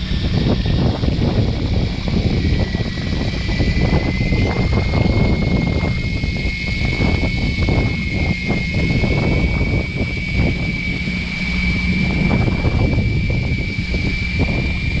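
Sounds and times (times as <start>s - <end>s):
boat engine rumbling: 0.0s - 15.0s
faint high whine: 0.0s - 15.0s
wind buffeting microphone: 0.0s - 15.0s.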